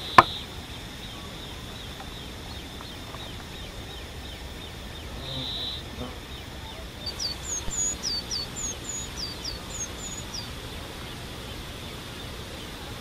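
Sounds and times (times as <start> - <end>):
bird chirping: 0.0 - 13.0
high insect drone: 0.0 - 13.0.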